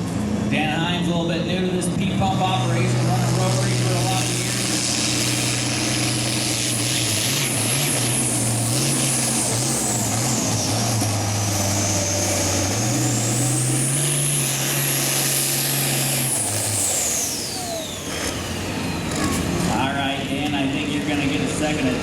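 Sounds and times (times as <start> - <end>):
tractor diesel engine at full throttle: 0.0 - 22.0.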